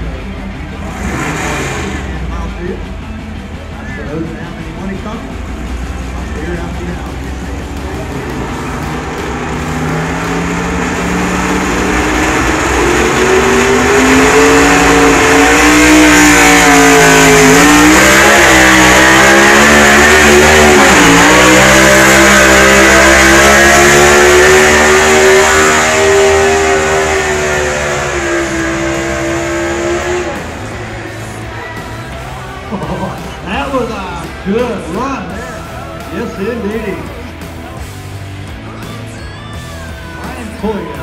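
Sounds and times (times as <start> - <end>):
pulling vehicle engine revving: 0.0 - 41.0.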